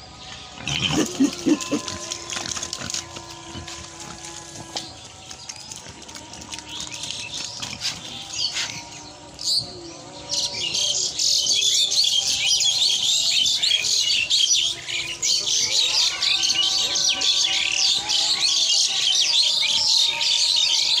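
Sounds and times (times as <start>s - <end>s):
small birds chirping chorus: 0.0s - 21.0s.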